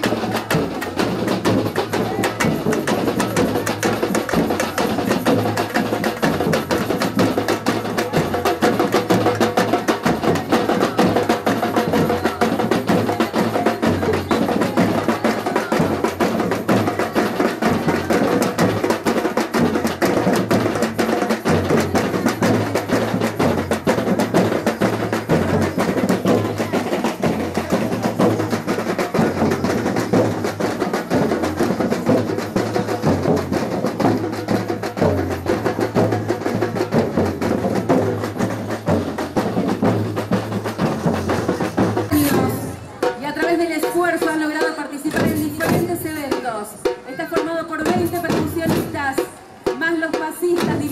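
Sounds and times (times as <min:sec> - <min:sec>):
snare and hand percussion: 0:00.0 - 0:50.9.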